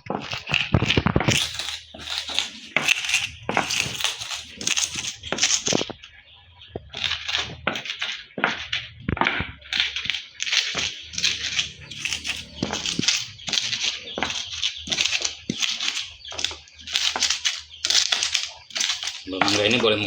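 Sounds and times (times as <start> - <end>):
mango being crushed by hand: 0.0 - 6.0, 6.8 - 20.0.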